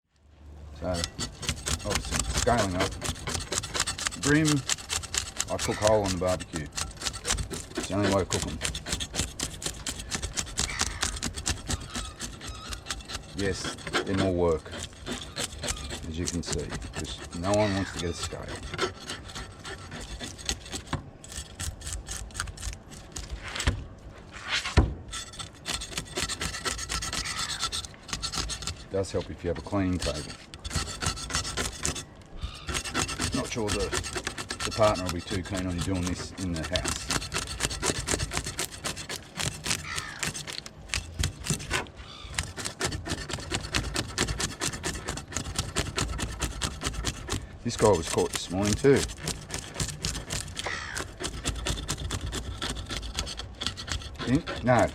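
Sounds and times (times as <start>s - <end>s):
knife scraping fish scales: 0.8s - 23.7s, 24.3s - 54.9s.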